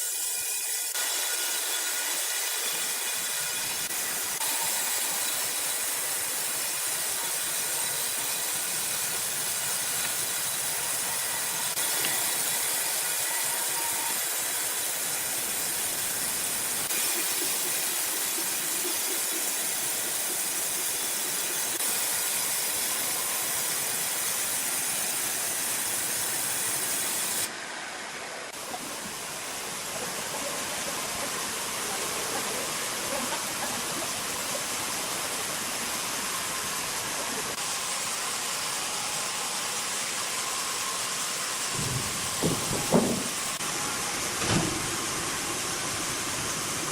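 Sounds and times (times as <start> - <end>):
sawmill machinery hissing: 0.0 - 46.9.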